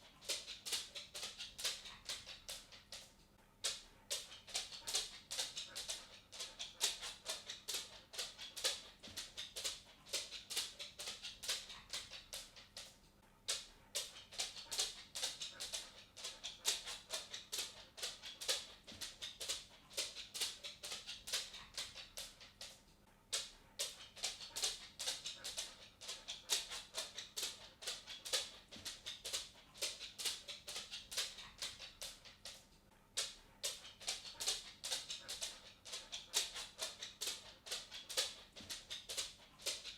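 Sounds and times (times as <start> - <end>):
cat paws clicking footfalls: 0.0 - 39.9.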